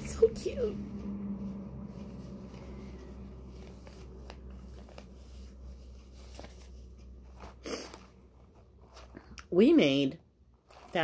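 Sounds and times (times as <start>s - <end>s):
cloth mask rustling: 0.0s - 9.4s.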